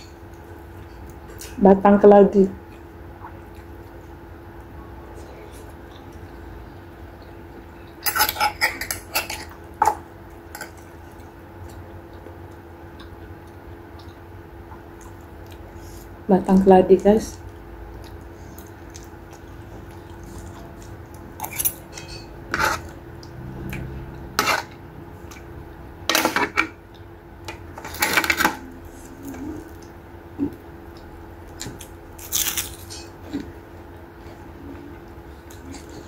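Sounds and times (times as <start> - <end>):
person chewing food: 2.6 - 16.2, 17.4 - 25.8, 26.8 - 36.0.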